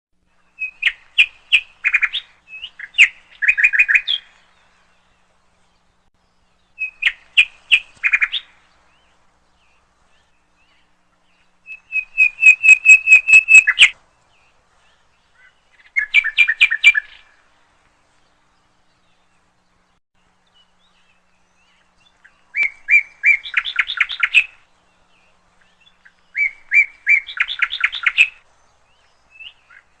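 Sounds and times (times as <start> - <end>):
songbird chirping: 0.2 - 30.0.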